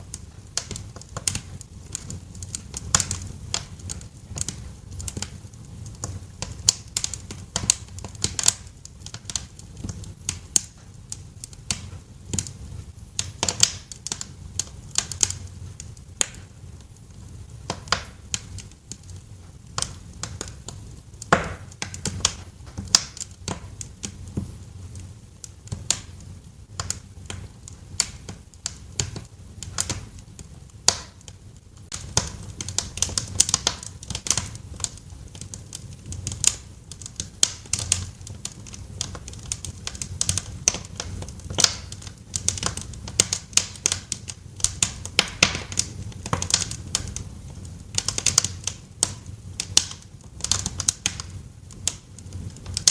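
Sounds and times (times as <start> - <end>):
low rumble of flames: 0.0 - 52.9
wood fire crackling: 0.0 - 52.9.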